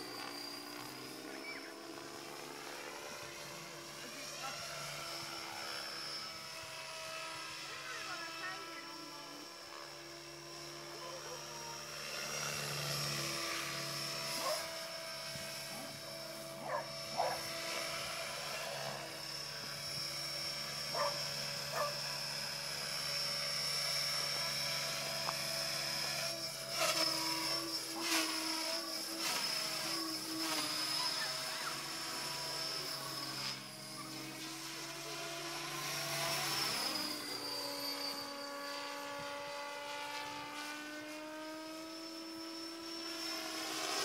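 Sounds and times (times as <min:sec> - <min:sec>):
rc helicopter motor whine: 0:00.0 - 0:44.0.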